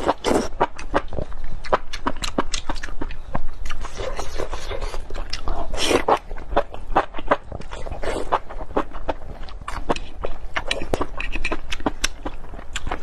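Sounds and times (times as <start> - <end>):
wet slurping and chewing: 0.0 - 13.0.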